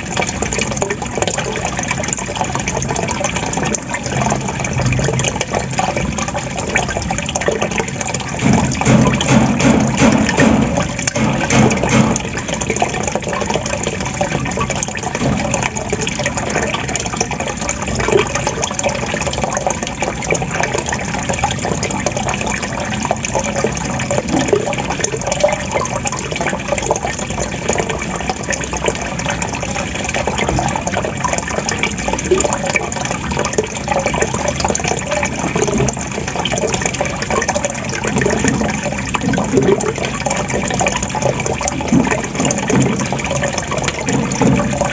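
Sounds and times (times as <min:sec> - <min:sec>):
running water gurgling and splashing: 0:00.0 - 0:44.9.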